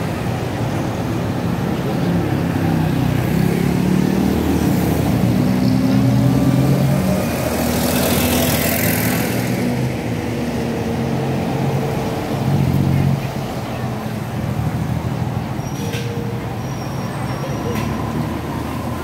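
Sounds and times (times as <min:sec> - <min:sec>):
vehicle engines running: 0:00.0 - 0:19.0.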